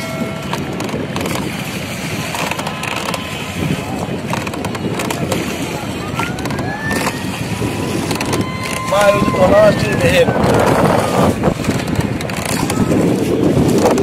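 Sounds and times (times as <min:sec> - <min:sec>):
boat traffic: 0:00.0 - 0:14.0
oar knocking and creaking on boat: 0:00.0 - 0:14.0
river water: 0:00.0 - 0:14.0.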